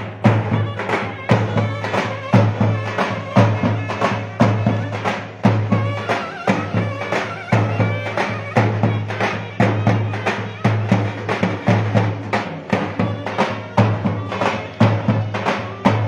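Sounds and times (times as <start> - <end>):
heavy bass drum strokes: 0.0 - 16.0
shrill reedy pipe melody: 0.0 - 16.0.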